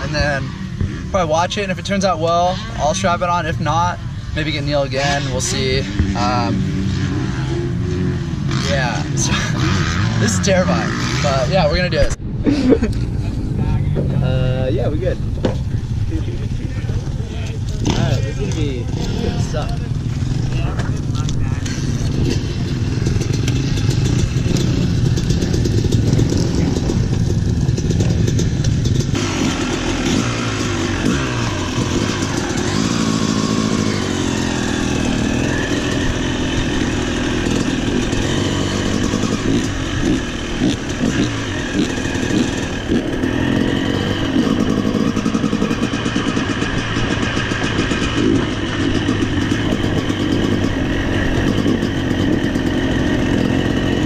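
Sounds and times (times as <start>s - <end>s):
dirt bike engine: 0.0s - 54.0s.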